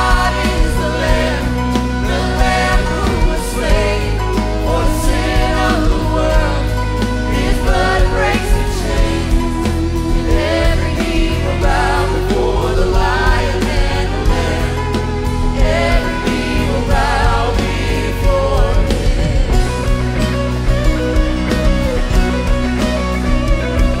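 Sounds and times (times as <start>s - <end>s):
woman singing: 0.0s - 20.0s
worship band playing: 0.0s - 24.0s.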